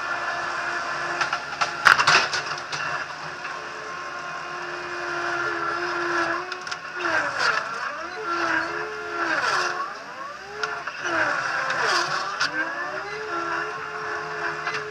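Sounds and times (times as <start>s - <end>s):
loader engine revving: 0.0s - 14.9s.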